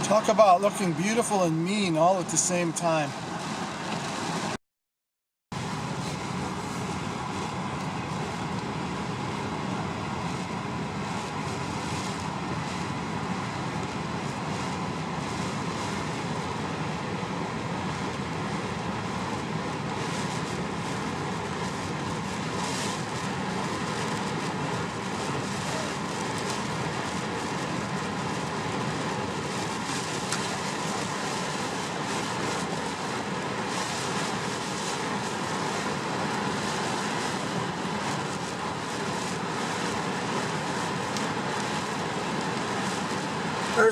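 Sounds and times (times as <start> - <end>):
surf on a lake: 5.6 - 43.9.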